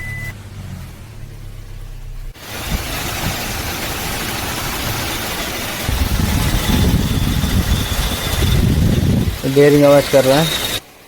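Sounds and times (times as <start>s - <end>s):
car engine idling: 0.0s - 11.0s
rough whirring drive belts: 0.4s - 11.0s.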